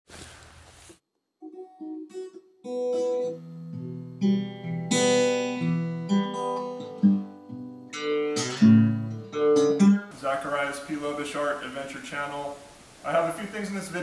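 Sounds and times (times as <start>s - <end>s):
acoustic guitar music: 1.4s - 13.8s.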